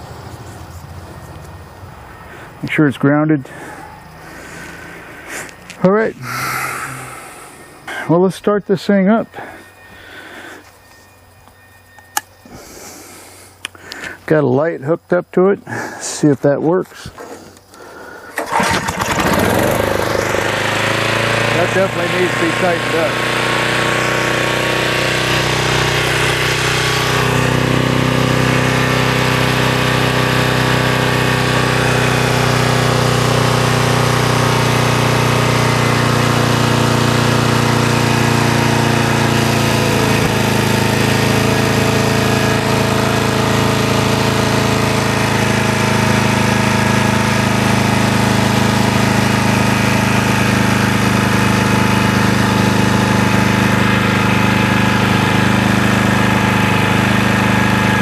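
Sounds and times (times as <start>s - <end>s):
generator engine running: 0.0s - 14.4s, 15.7s - 58.0s.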